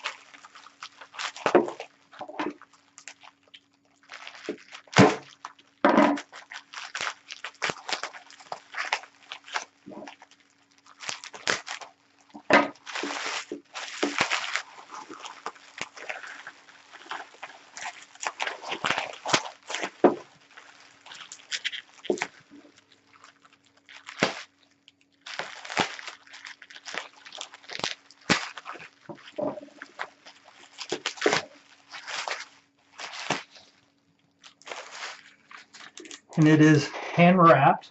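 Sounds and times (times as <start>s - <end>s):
bubble wrap crinkling: 0.0s - 37.9s
faint steady hum: 0.0s - 37.9s.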